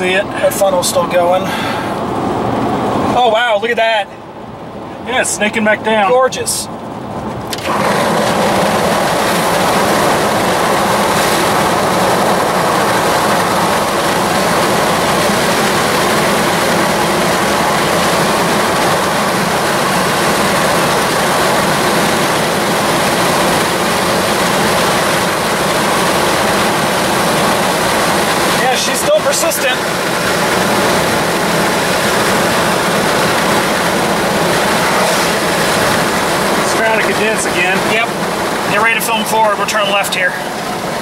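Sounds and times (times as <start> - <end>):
road and wind noise: 0.0 - 41.0.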